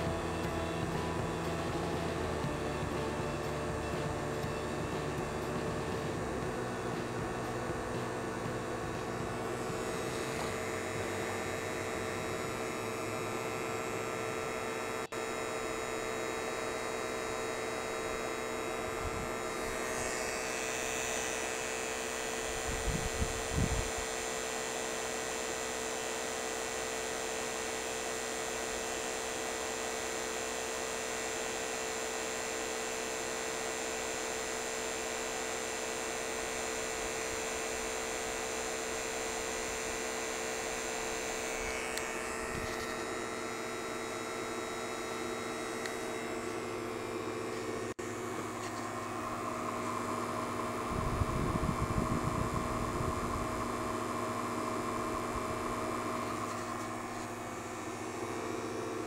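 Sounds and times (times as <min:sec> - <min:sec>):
vacuum pump humming: 0:00.0 - 0:59.0.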